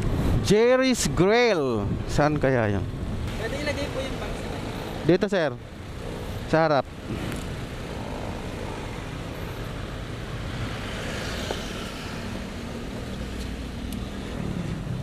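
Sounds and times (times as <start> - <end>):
passing cars and motorbikes: 0.0 - 15.0.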